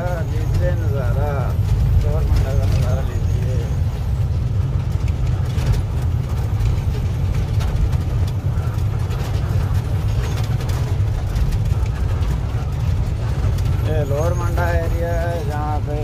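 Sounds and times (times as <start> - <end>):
light rattles: 0.0 - 16.0
truck engine drone: 0.0 - 16.0.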